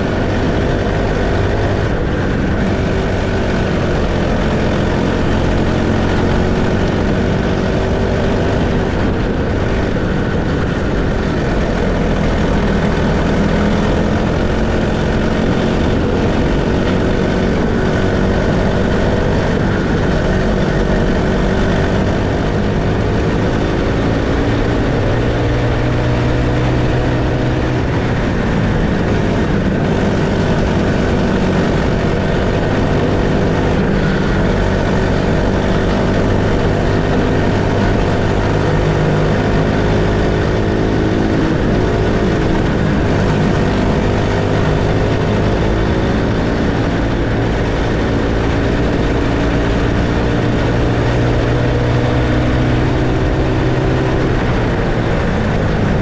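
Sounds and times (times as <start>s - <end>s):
kart engine running hard: 0.0s - 56.0s.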